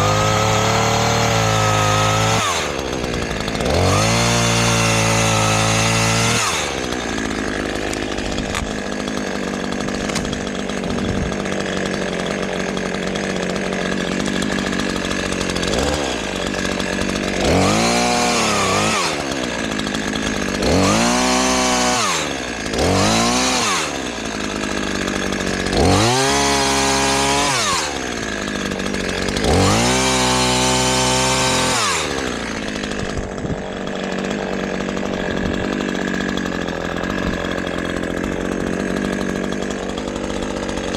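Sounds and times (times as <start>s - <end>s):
chainsaw sawing logs: 0.0s - 40.9s.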